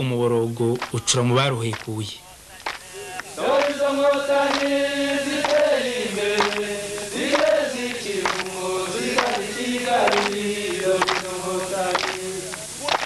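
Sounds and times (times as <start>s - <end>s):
group chanting held notes: 2.2s - 13.0s.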